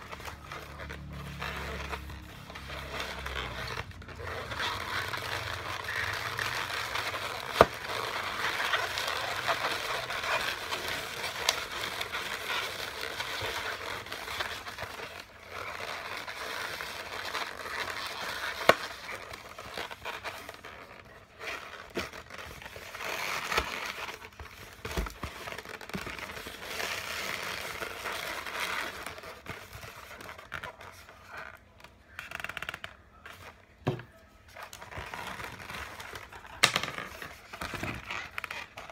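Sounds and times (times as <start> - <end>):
balloons squeaking and rubbing: 0.0 - 38.9.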